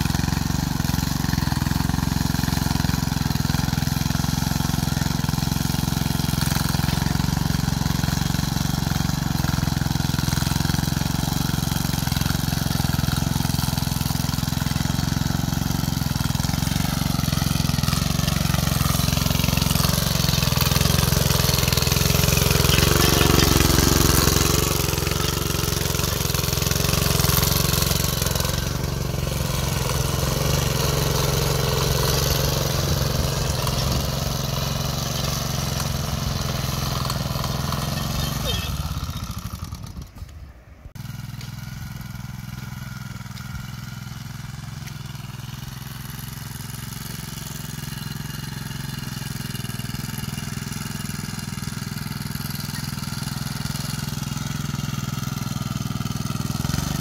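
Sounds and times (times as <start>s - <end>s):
tiller engine running: 0.0s - 57.0s.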